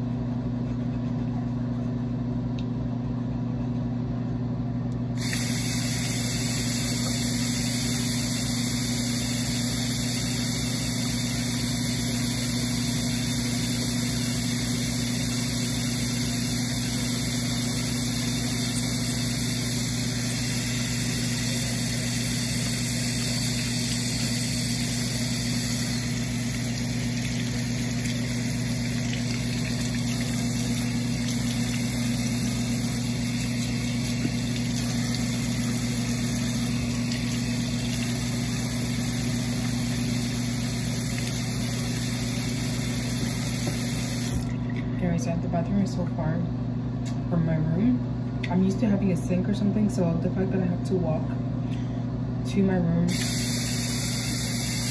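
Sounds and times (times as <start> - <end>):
steady mechanical hum: 0.0 - 54.9.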